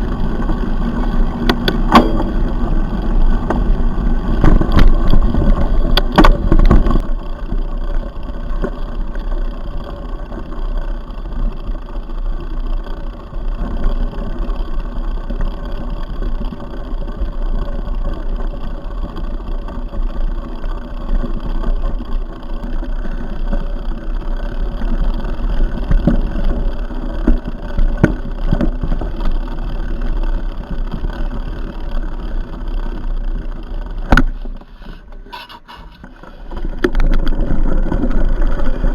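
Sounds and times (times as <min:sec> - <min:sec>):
bike knocks and rattles: 0:00.0 - 0:38.9
mountain bike rumble on trail: 0:00.0 - 0:38.9.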